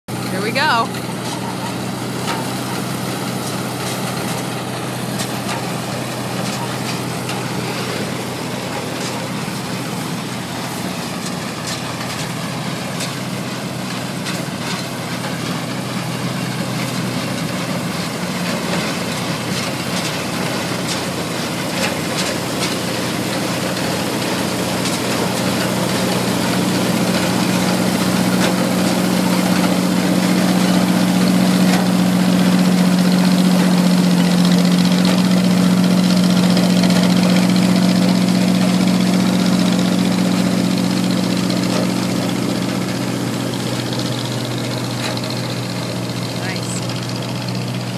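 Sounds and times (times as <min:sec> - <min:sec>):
combine harvester engine drone: 0:00.1 - 0:47.9
machinery rattle: 0:00.5 - 0:47.9.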